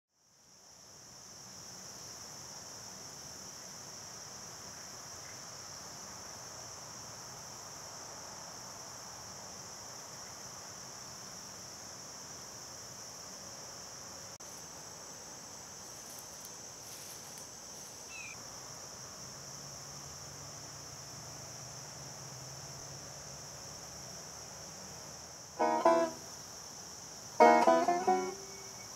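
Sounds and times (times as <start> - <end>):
crickets trilling: 0.2 - 28.9.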